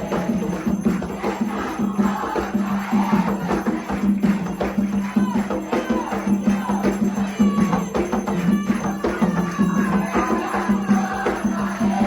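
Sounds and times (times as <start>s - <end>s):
drum beat: 0.0s - 12.0s
jingling shaker: 0.0s - 12.0s.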